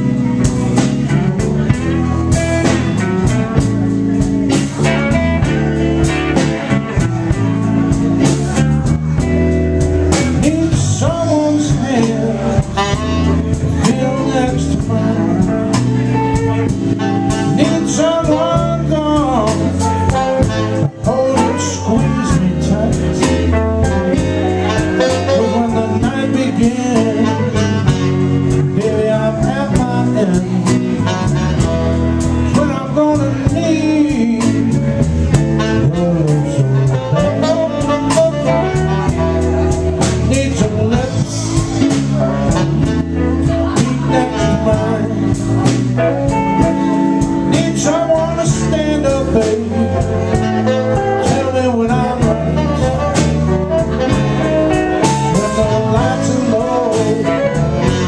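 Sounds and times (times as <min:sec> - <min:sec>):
live blues band playing: 0:00.0 - 0:58.0
saxophone: 0:00.0 - 0:58.0.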